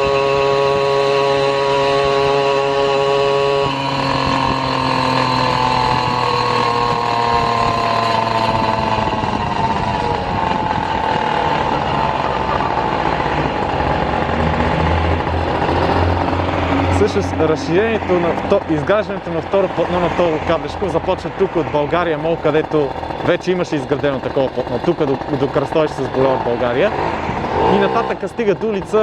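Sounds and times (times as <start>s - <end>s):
vehicle drive whine: 0.0s - 29.0s.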